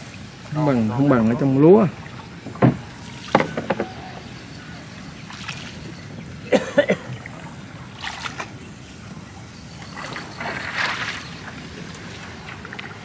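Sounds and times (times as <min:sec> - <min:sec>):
water lapping against hull: 0:00.0 - 0:13.0.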